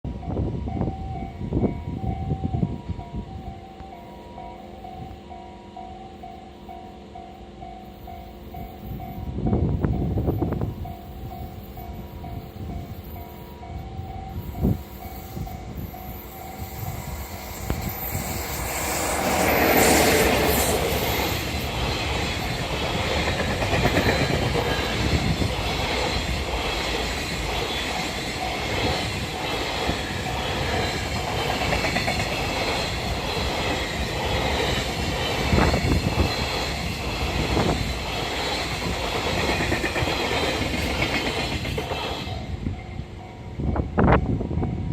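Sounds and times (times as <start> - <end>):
electric locomotive passing: 0.1 - 44.9.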